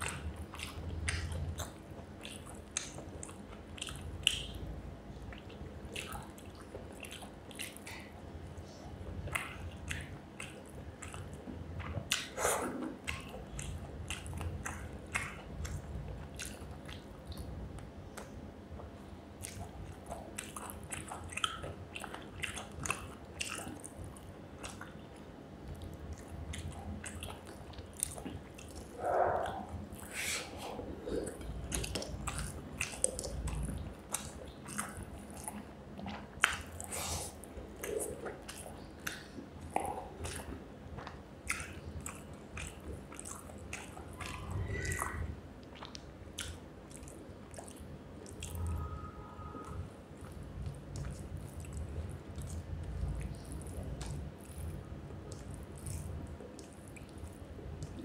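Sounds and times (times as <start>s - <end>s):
chewing and wet mouth sounds: 0.0s - 58.0s
steady low hum: 0.0s - 58.0s.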